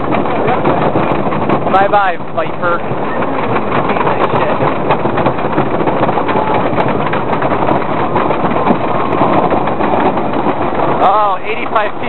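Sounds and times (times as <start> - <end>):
roller coaster rattling on wooden track: 0.0 - 12.0.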